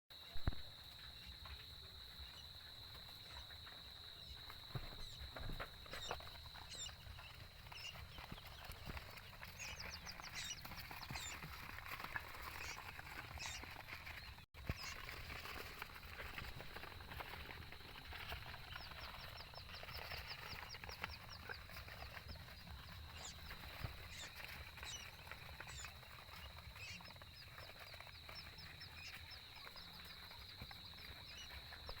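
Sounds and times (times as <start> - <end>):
quail peeping: 0.2 - 32.0
faint scratches and clicks: 0.4 - 32.0.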